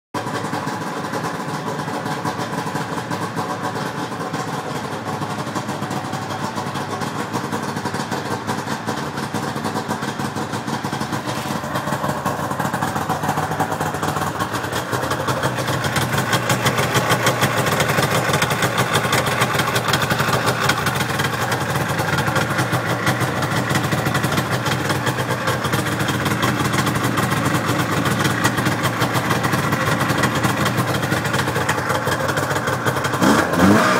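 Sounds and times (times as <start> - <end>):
snowmobile engine idling: 0.2 - 33.9.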